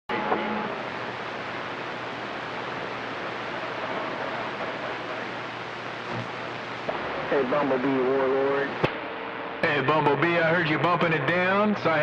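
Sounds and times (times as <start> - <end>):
radio static hiss: 0.1 - 12.0.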